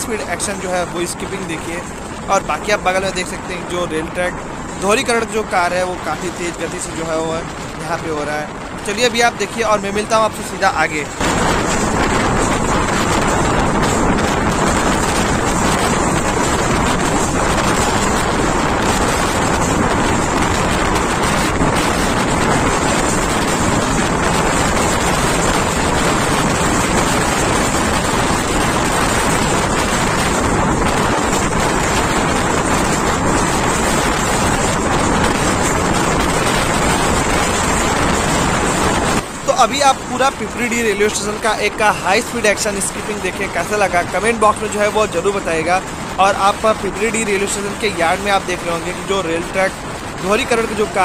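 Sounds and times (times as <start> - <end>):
wind rushing on microphone: 0.0 - 51.0.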